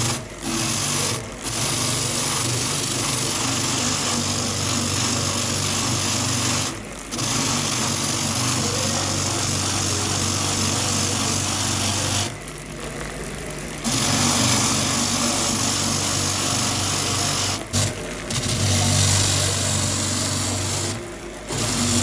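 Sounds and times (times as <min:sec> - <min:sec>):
power tool running at high speed: 0:00.0 - 0:22.0.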